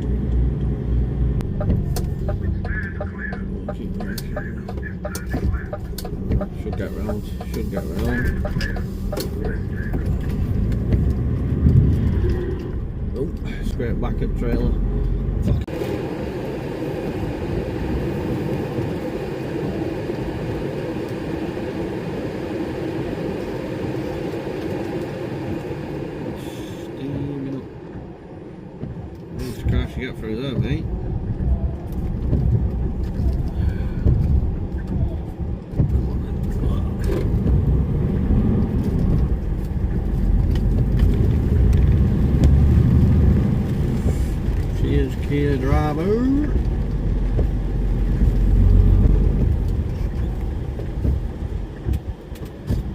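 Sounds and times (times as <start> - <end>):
lorry engine and road noise: 0.0 - 52.9.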